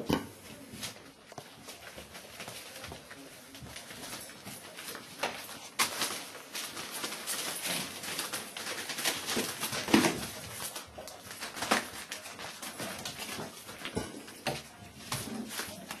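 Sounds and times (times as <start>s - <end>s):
paper rustling and crinkling: 0.3s - 16.0s.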